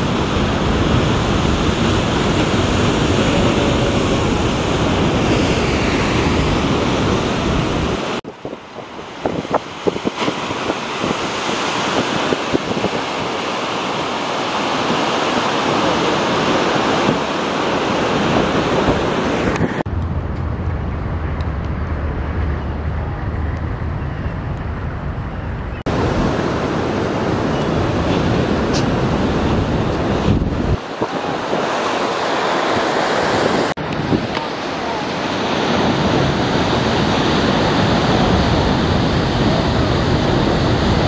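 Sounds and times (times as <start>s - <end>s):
ocean surf breaking: 0.0s - 41.0s
wind rumble on microphone: 0.0s - 41.0s.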